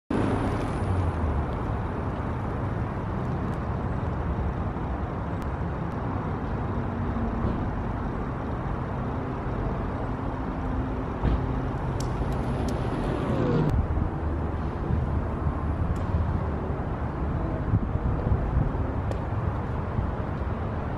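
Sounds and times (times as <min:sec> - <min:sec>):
street rumble with hiss: 0:00.1 - 0:20.9.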